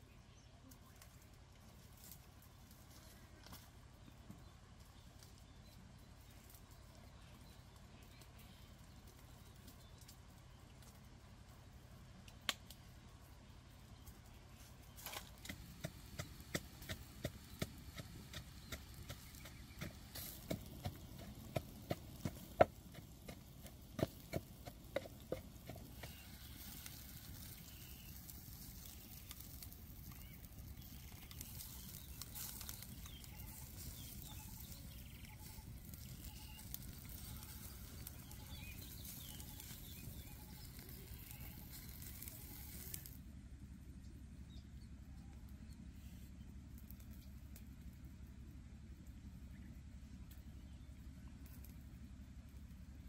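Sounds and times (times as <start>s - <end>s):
soft hiss with crackles: 0.0s - 53.0s.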